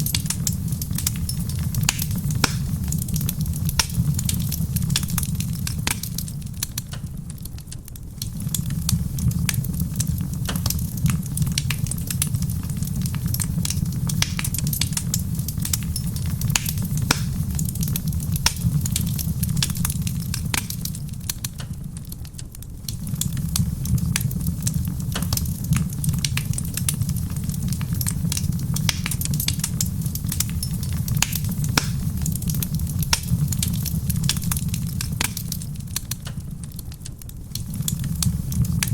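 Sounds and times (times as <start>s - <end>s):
steady low rumble: 0.0s - 38.9s
wood fire crackling and popping: 0.0s - 38.9s.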